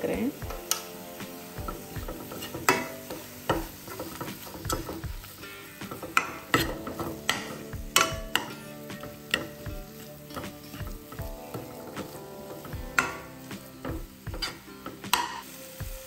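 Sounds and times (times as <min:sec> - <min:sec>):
light sizzle: 0:00.0 - 0:16.0
spoon scraping and clacking on pan: 0:00.5 - 0:15.6.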